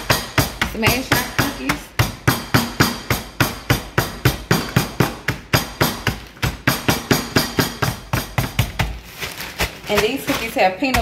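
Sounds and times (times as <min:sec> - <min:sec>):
cup pounding cookies: 0:00.0 - 0:11.0.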